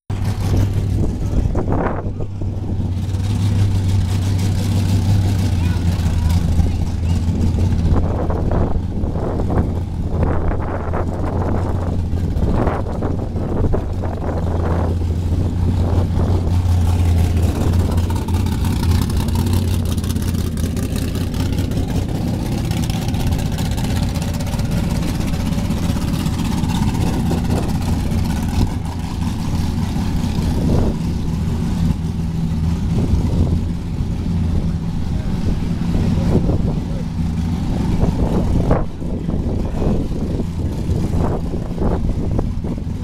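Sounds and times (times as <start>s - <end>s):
vehicle engine droning: 0.1s - 43.0s.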